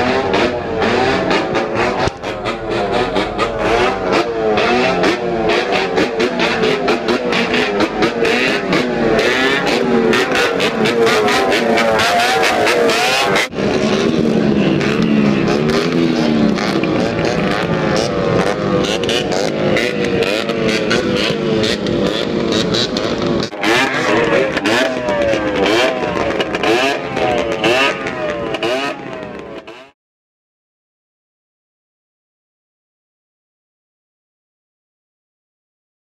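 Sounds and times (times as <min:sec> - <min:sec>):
motorcycles revving engines: 0:00.0 - 0:30.0.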